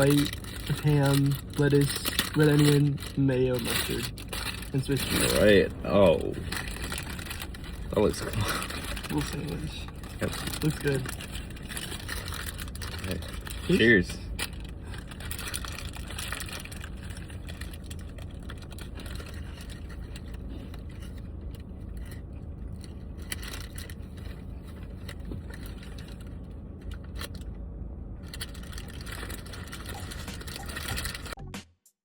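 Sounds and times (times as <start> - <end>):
paper wrapping crinkling: 0.0 - 27.4, 28.2 - 31.4
low rumble: 0.0 - 31.4.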